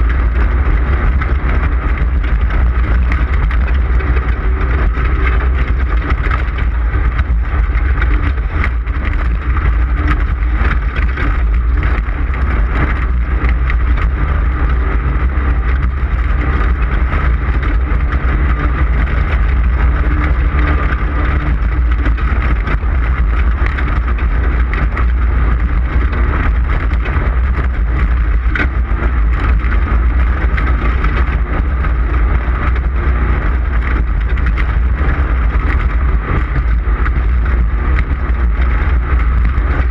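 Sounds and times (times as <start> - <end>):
clatters and knocks: 0.0 - 39.9
race car engine rumble: 0.0 - 39.9.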